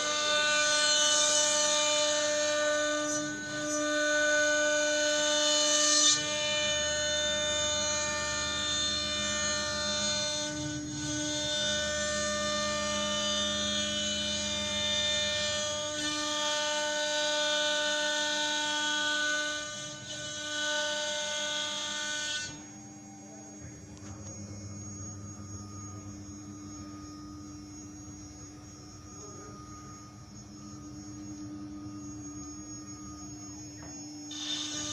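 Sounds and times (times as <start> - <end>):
cutting machine whine: 0.0 - 34.9.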